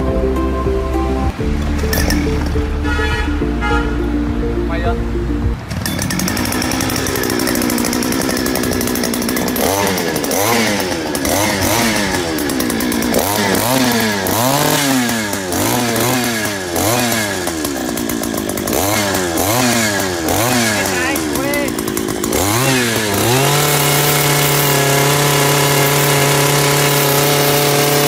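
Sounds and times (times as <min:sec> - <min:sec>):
two-stroke engine revving: 0:01.3 - 0:04.4, 0:05.5 - 0:28.0.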